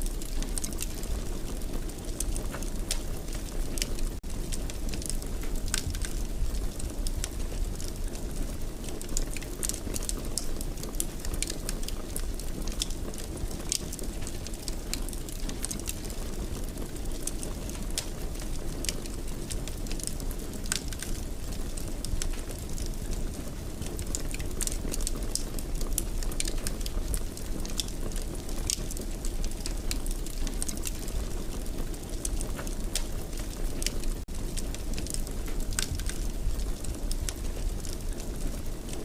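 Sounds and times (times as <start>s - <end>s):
wood fire burning in fireplace: 0.0s - 39.0s.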